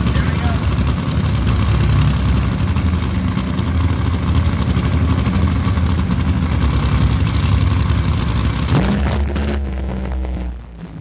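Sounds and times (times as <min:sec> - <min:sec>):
race car engines idling: 0:00.0 - 0:11.0.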